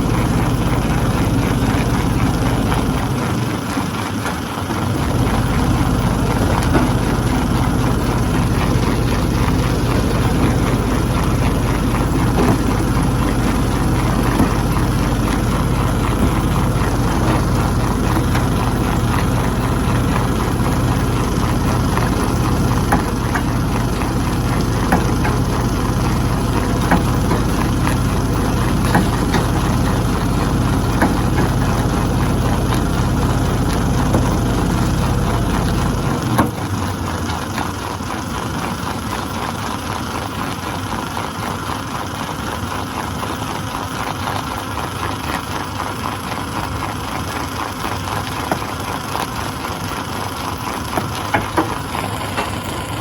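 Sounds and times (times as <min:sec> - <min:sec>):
stone crusher humming: 0:00.0 - 0:53.0.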